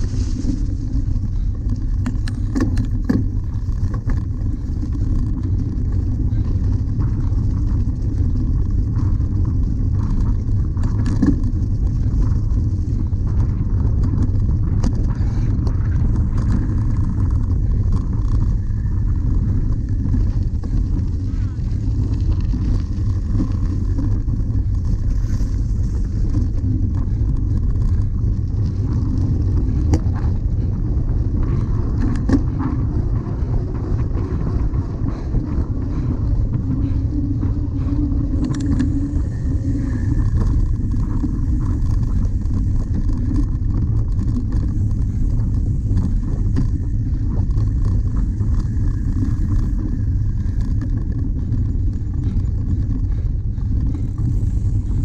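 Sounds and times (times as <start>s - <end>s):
tyre noise: 0.0s - 55.0s
wind rumble on microphone: 0.0s - 55.0s.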